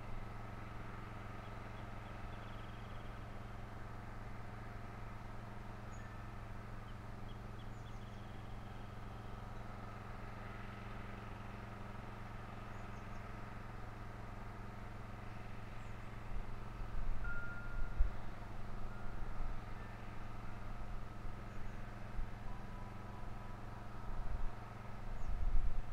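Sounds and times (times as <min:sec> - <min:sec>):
low outdoor hum: 0:00.0 - 0:25.9.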